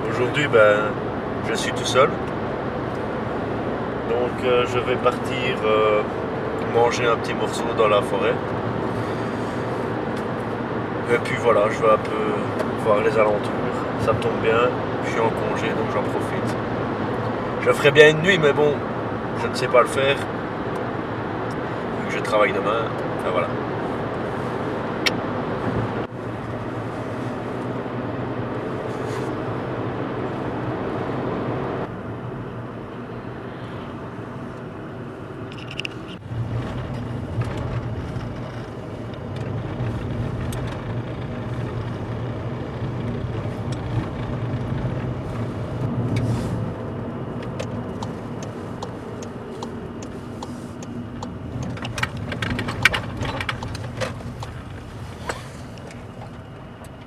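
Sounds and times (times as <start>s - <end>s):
car engine and road hum: 0.0s - 57.0s.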